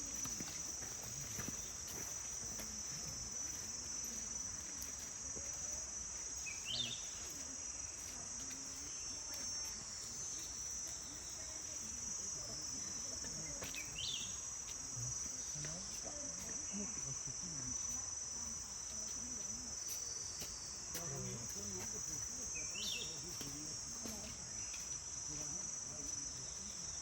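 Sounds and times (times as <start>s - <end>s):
chorus of forest insects: 0.0s - 27.0s.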